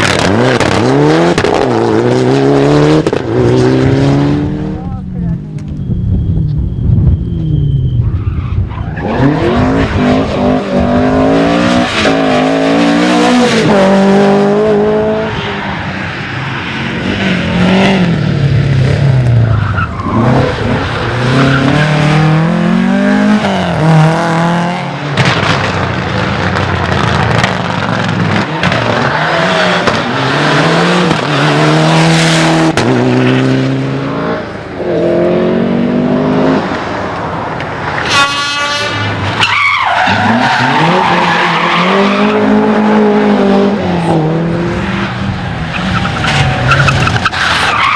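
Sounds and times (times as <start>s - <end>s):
rally car engine revving: 0.0s - 5.7s, 8.9s - 15.6s, 16.8s - 37.0s, 37.9s - 47.9s.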